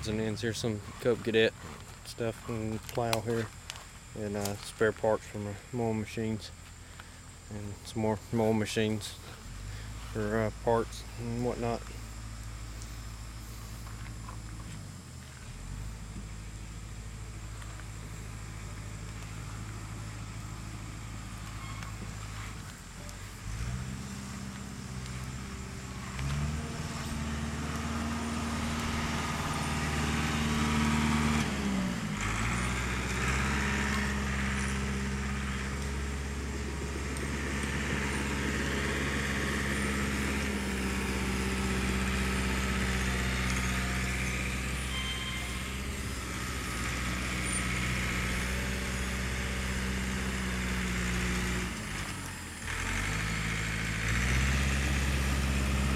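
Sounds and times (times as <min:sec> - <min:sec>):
engine running: 0:00.0 - 0:55.9.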